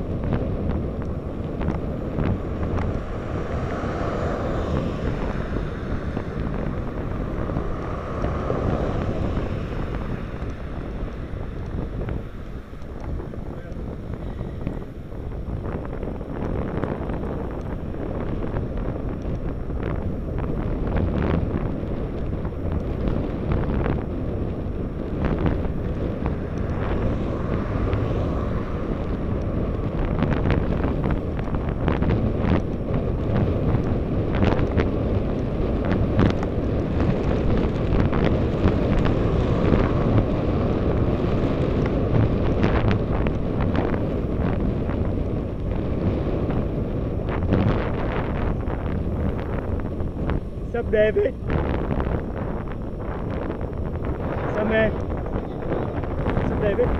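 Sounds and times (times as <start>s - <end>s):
road noise: 0.0s - 56.9s
wind buffeting microphone: 0.0s - 56.9s.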